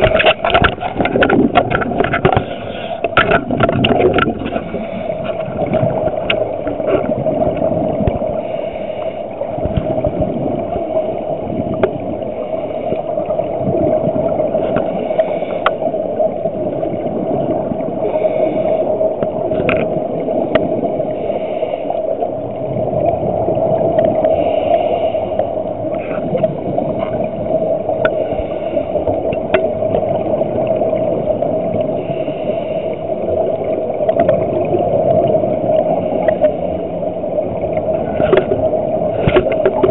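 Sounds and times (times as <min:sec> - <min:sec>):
underwater hum: 0:00.0 - 0:39.9.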